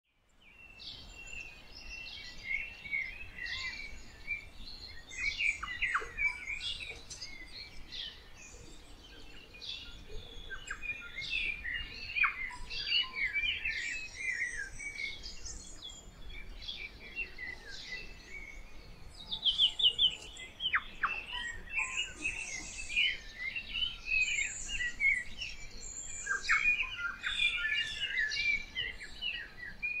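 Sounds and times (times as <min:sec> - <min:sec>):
birds chirping and trilling: 0:00.3 - 0:30.0.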